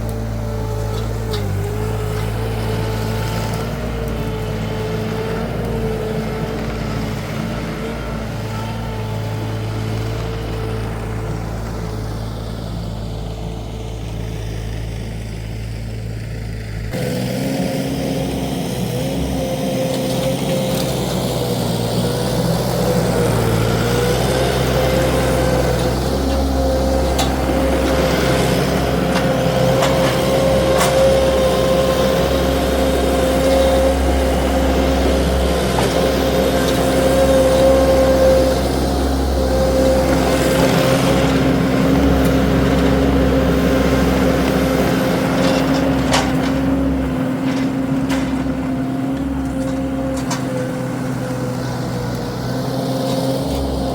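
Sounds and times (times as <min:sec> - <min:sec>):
skid steer engine running: 0:00.0 - 0:53.9.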